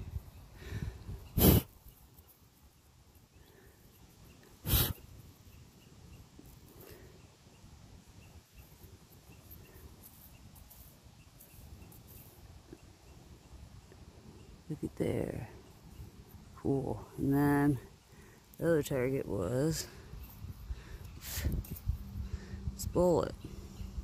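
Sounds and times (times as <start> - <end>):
faint woodland background: 0.0 - 24.0.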